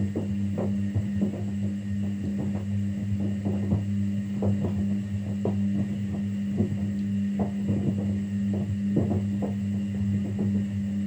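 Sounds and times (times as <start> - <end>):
soft thuds of turning drum: 0.0 - 11.0
washing machine motor hum: 0.0 - 11.0.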